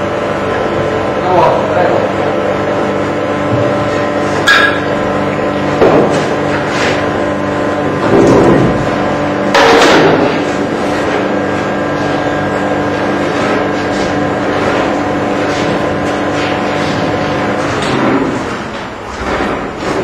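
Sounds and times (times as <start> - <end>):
furnace roaring: 0.0 - 20.0.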